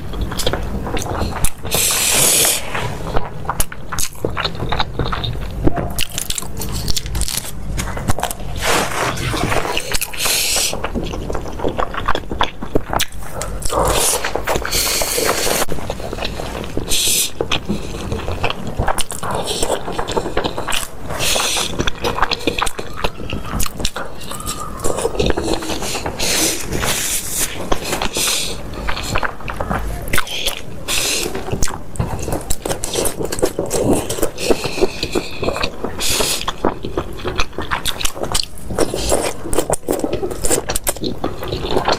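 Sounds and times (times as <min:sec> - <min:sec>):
chewing: 0:00.0 - 0:41.9
slurping noodles: 0:01.0 - 0:03.2, 0:08.2 - 0:12.2, 0:13.0 - 0:29.4, 0:30.2 - 0:41.9.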